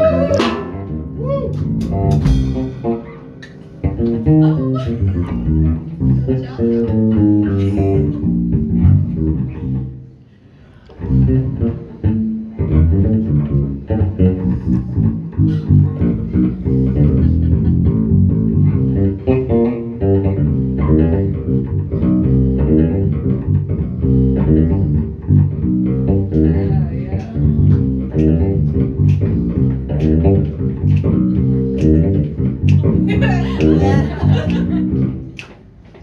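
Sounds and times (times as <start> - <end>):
jazz band playing: 0.0 - 9.8, 11.1 - 35.5
plucked bass guitar notes: 0.0 - 10.2, 10.9 - 35.8.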